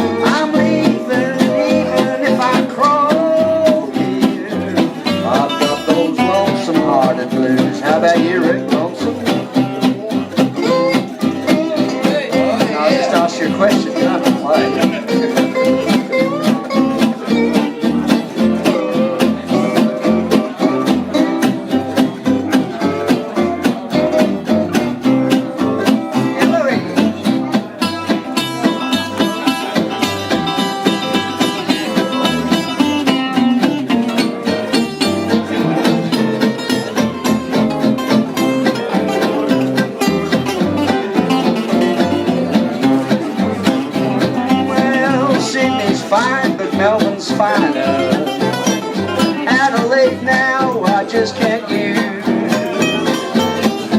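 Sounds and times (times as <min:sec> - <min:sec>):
bending guitar lead line: 0:00.0 - 0:53.9
live band playing country blues: 0:00.0 - 0:53.9.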